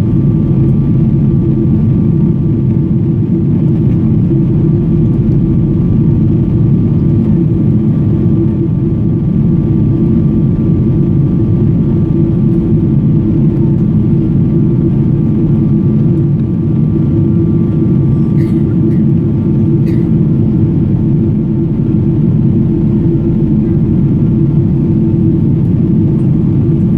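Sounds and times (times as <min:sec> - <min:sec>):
airliner cabin roar: 0:00.0 - 0:26.9.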